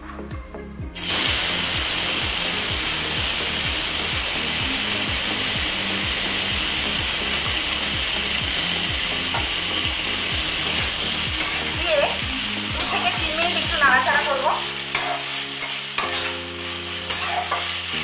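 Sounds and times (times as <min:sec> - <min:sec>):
food sizzling in hot oil: 0:01.0 - 0:18.0.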